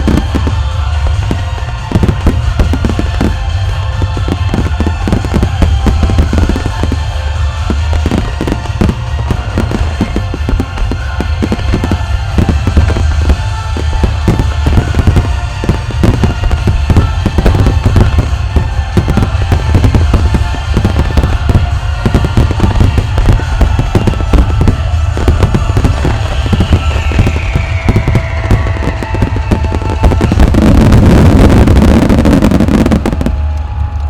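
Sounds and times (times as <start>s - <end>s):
deep rumble: 0.0s - 34.0s
fireworks bursting: 0.0s - 34.0s.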